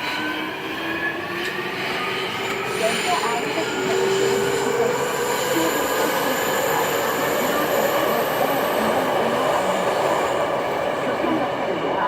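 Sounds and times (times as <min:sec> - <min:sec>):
train wheels squealing: 0:00.0 - 0:11.1
train running rumble: 0:00.0 - 0:12.0.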